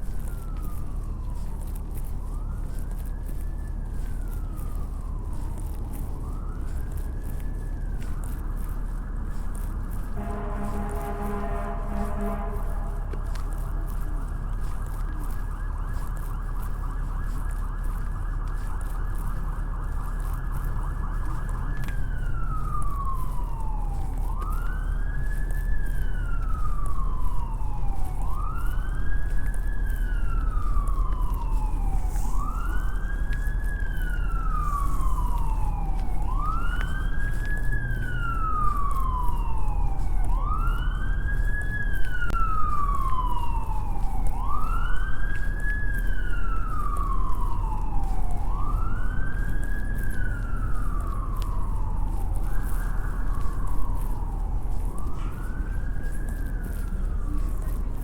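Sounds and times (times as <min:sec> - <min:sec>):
city traffic rumble: 0:00.0 - 0:58.0
emergency vehicle siren wailing: 0:00.0 - 0:58.0.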